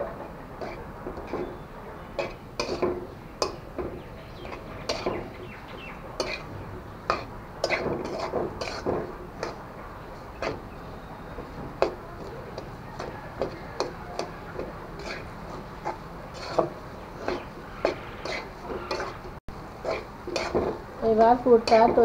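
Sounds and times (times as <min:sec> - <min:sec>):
metal spatula scraping wok: 0:00.0 - 0:05.5, 0:06.2 - 0:20.8, 0:21.5 - 0:22.0.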